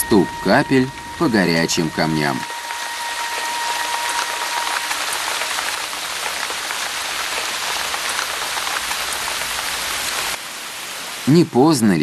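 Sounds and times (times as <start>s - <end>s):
rain hissing on rock: 0.0s - 12.0s.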